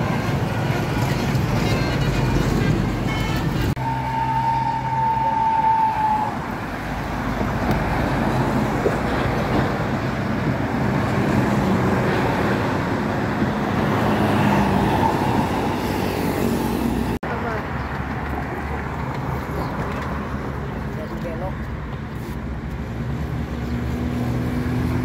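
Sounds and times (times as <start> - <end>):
bus and road traffic: 0.0 - 25.0.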